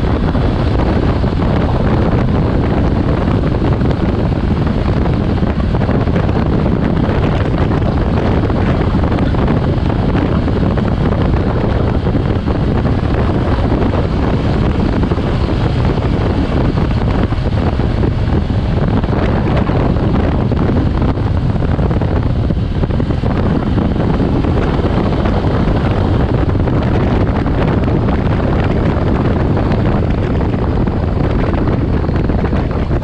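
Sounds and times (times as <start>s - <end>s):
motorcycle engine: 0.0s - 33.0s
wind rumble on microphone: 0.0s - 33.0s.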